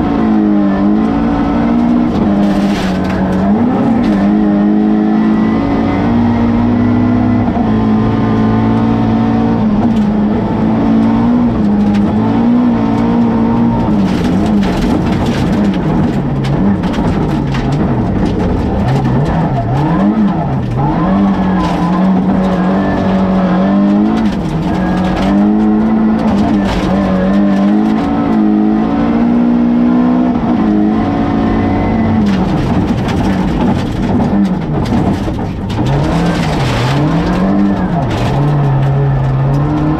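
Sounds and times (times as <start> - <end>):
rally car engine revving: 0.0 - 39.9
gravel knocks and rattles: 1.0 - 4.6, 8.4 - 28.8, 31.9 - 39.9.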